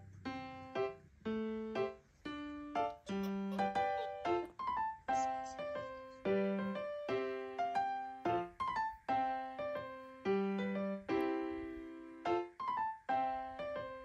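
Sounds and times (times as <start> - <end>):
gentle piano-like keyboard tune: 0.0 - 14.0.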